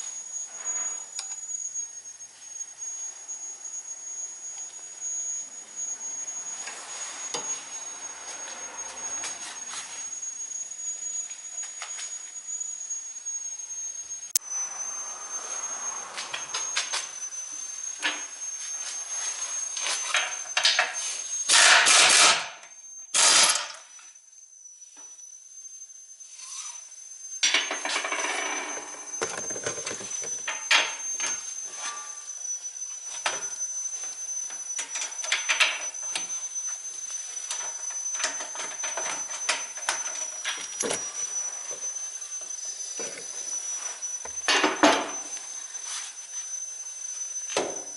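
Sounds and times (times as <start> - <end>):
faint high whine: 0.0 - 47.9.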